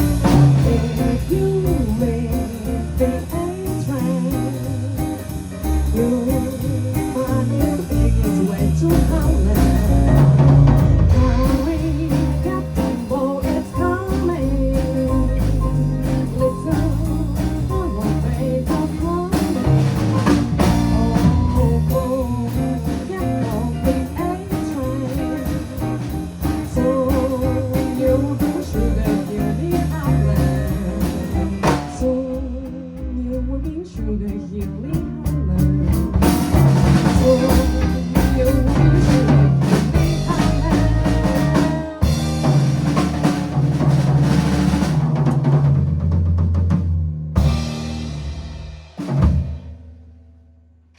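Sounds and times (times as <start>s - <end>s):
person singing: 0.0s - 36.1s, 36.9s - 42.5s
guitar: 0.0s - 44.8s
drum kit: 0.0s - 50.4s.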